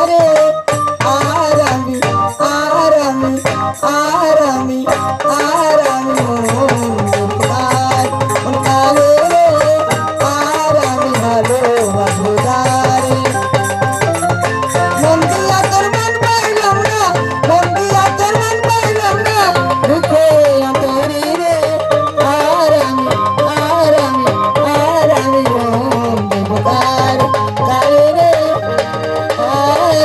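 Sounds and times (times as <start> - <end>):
dhol drum beat: 0.0 - 30.0
hand percussion: 0.0 - 30.0
woman singing into a microphone: 0.0 - 30.0.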